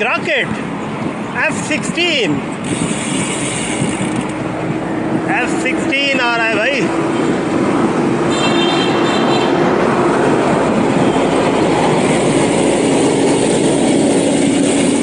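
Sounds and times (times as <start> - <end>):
bicycle tyre and road noise: 0.0 - 15.0
wind rushing on microphone: 0.0 - 15.0.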